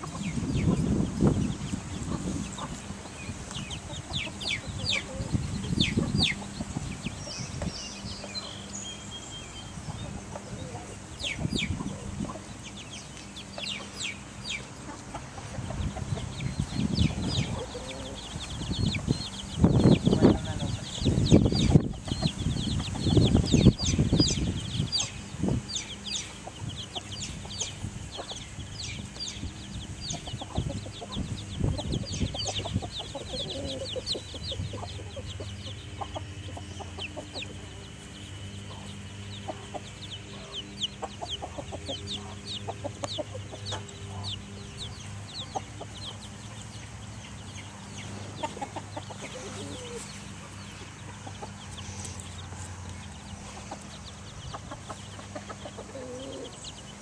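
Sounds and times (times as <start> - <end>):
hen clucking: 0.0 - 8.7, 9.6 - 57.0
chicks peeping: 0.0 - 57.0
steady low hum: 0.0 - 57.0.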